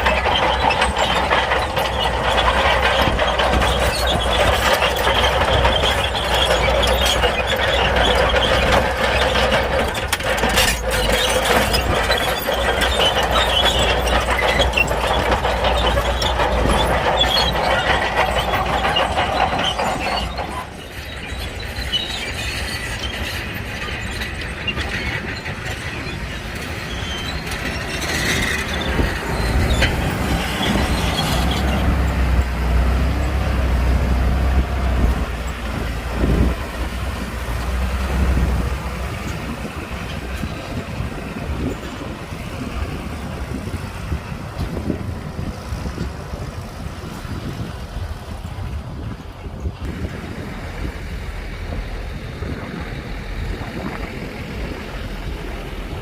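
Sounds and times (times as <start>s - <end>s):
diesel engine running: 0.0s - 56.0s
steel tracks clattering: 0.0s - 56.0s.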